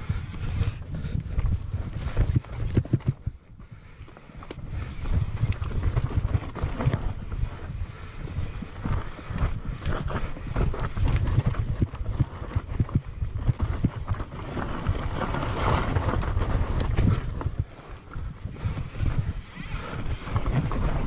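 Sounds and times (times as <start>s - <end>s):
bike rattling and knocking: 0.0s - 21.0s
bike tyre noise on dirt: 0.0s - 21.0s
wind buffeting microphone: 0.0s - 21.0s.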